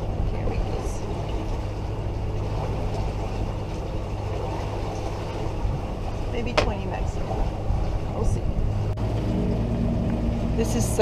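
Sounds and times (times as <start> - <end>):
boat diesel engine droning: 0.0 - 11.0.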